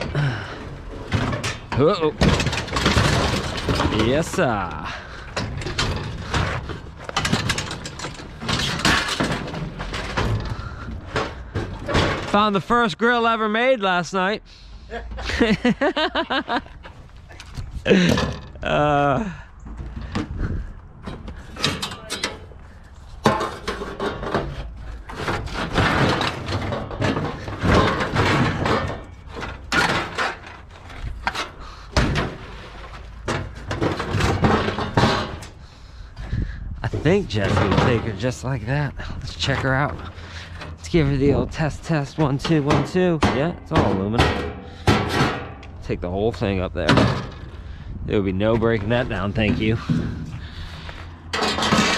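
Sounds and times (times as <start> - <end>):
scrap metal knocks and clanks: 0.0 - 12.8, 15.2 - 51.9.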